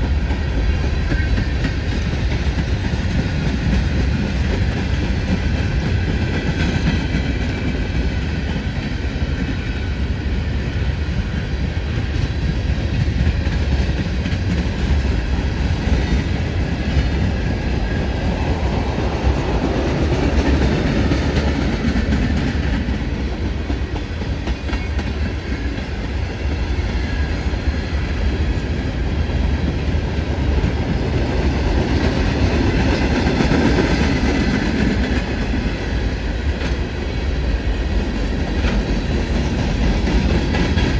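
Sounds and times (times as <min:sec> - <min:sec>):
freight train rumbling past: 0:00.0 - 0:40.9
steel wheels clattering on rails: 0:00.0 - 0:40.9.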